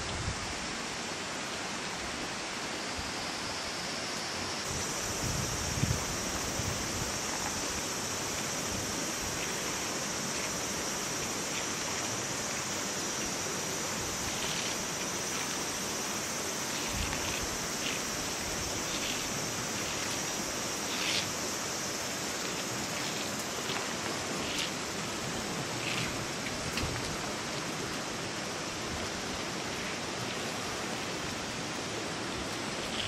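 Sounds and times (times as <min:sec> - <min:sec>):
running water hiss: 0:00.0 - 0:33.0.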